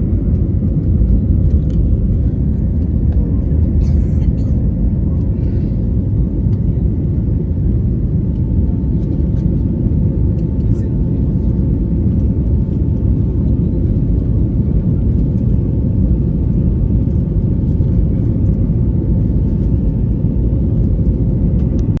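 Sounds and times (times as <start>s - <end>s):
airplane engines rumbling: 0.0s - 22.0s.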